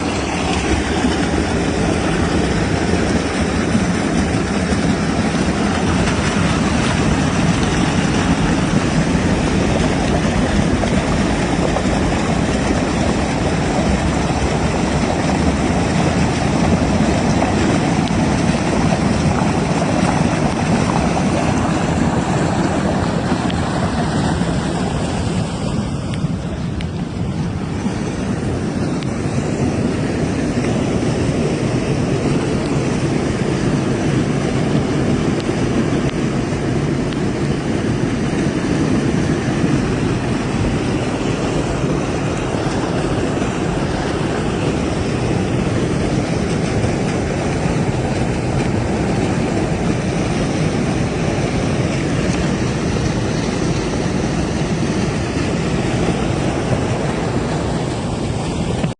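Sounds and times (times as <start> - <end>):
surf rushing: 0.0 - 58.9
wind buffeting microphone: 0.0 - 58.9.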